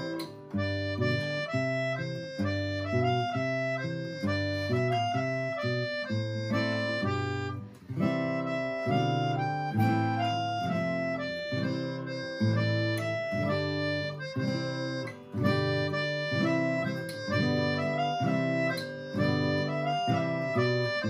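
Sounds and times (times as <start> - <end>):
acoustic guitar strumming: 0.0 - 21.0
harmonica melody: 0.0 - 21.0.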